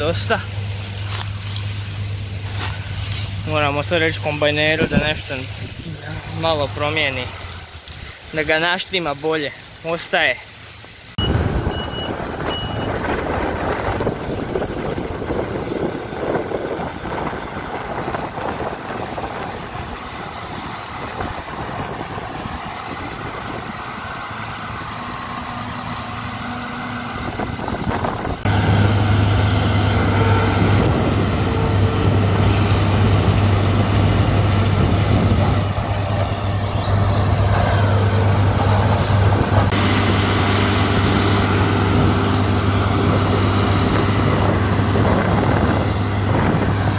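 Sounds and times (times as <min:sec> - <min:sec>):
farm machinery engines rumbling: 0:00.0 - 0:46.9.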